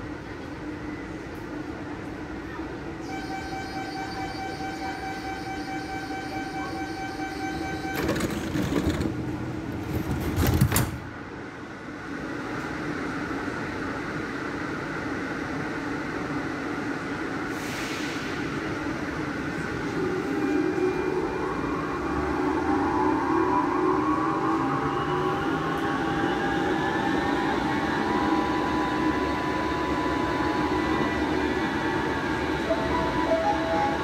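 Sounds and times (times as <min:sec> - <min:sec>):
train electrical equipment hum: 0:00.0 - 0:34.0.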